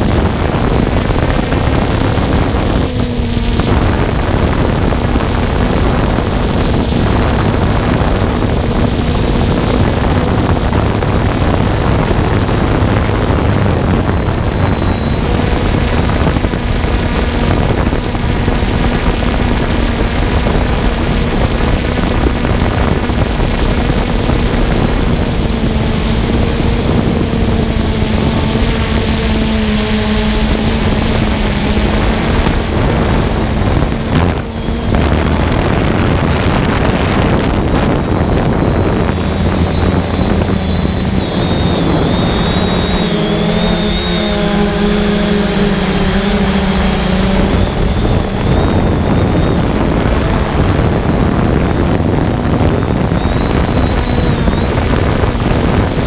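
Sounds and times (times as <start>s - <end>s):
drone motors humming: 0.0s - 56.0s
wind rushing over microphone: 0.0s - 56.0s.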